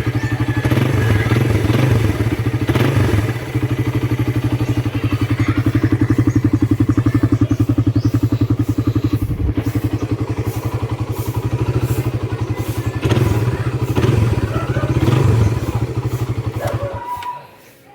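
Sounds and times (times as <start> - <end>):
motorcycle engine idling: 0.0 - 17.5.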